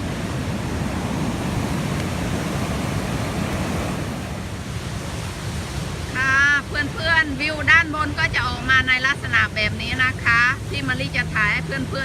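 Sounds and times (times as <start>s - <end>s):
waves washing onto beach: 0.0s - 12.0s
wind on microphone: 0.0s - 12.0s.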